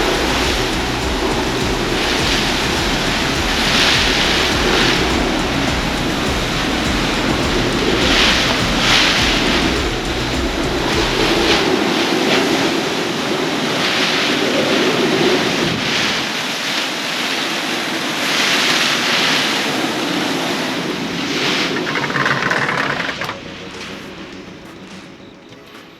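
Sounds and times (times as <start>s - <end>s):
driving rain: 0.0s - 25.2s.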